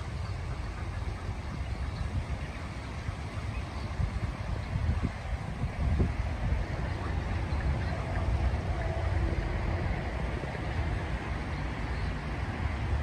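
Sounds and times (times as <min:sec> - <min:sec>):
fountain spray splashing: 0:00.0 - 0:13.0.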